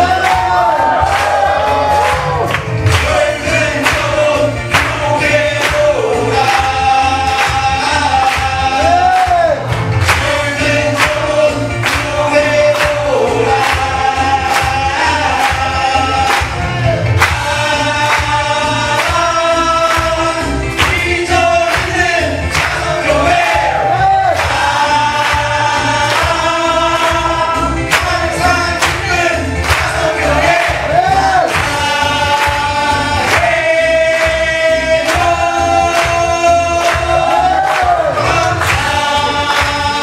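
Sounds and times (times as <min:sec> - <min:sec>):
musical accompaniment: 0:00.0 - 0:40.0
people singing upbeat song: 0:00.0 - 0:40.0
steady drum beat: 0:00.0 - 0:40.0.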